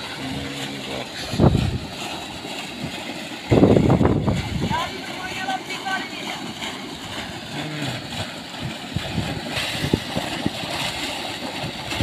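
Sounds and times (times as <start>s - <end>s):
water gushing into pool: 0.0s - 12.0s.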